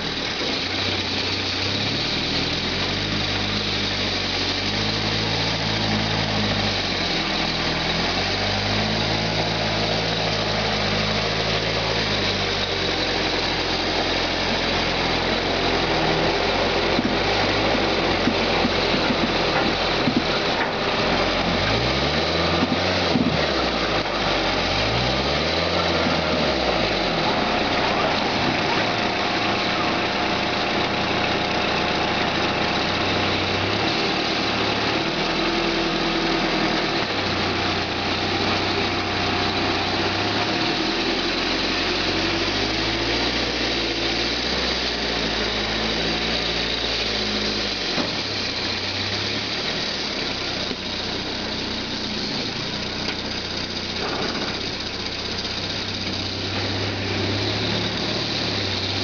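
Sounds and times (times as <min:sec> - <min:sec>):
engine running under load: 0:00.0 - 0:59.0.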